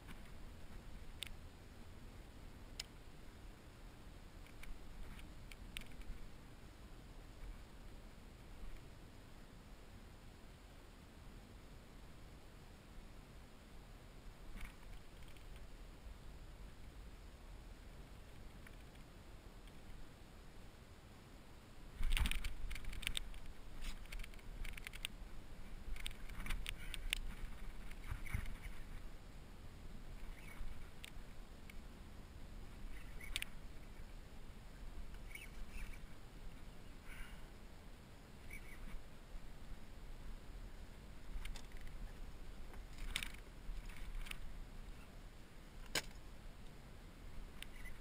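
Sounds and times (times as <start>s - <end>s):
low steady rumble: 0.0s - 48.0s.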